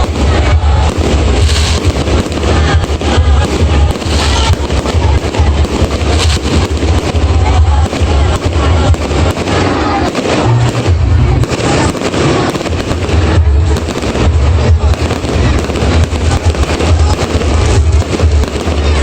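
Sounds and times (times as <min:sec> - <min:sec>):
fireworks crackling and popping: 0:00.0 - 0:19.0
loud bass-heavy music: 0:00.0 - 0:19.0.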